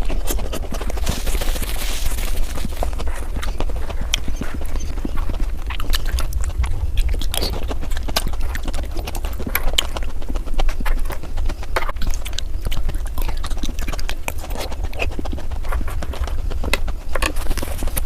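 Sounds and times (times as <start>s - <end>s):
fast chewing and crunching: 0.0s - 18.0s
steady low hum: 0.0s - 18.0s.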